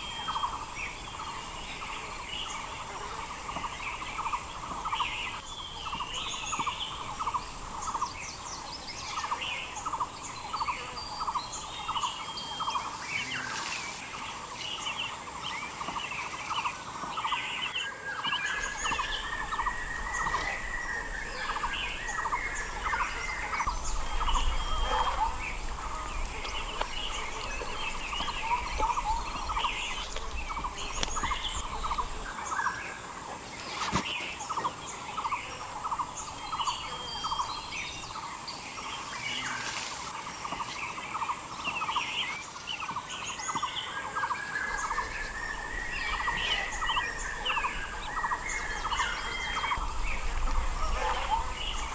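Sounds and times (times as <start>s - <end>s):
birds calling and chirping: 0.0s - 51.9s
high insect whine: 0.0s - 51.9s
pulsing insect chorus: 0.0s - 51.9s.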